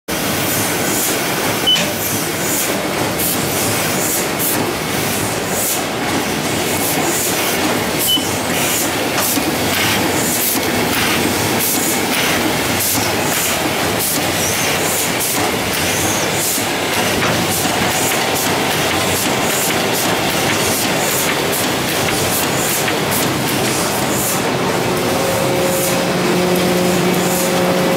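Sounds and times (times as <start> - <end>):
printing press running: 0.1 - 27.9.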